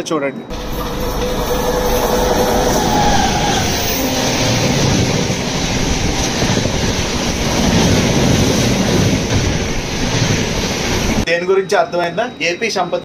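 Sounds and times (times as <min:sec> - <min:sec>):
train passing at speed: 0:00.5 - 0:11.3.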